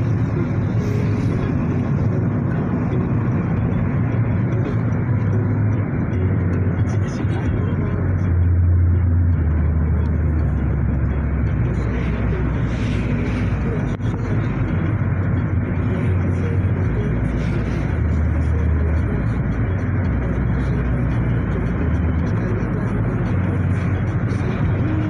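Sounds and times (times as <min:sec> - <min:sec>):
car cabin engine and tyre rumble: 0:00.0 - 0:25.0.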